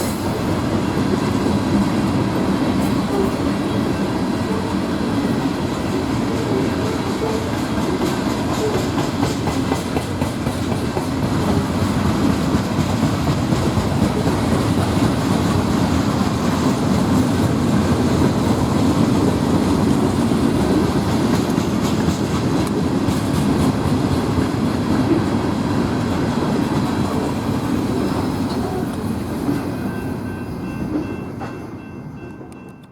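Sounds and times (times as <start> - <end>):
freight train rumbling past: 0.0 - 32.8.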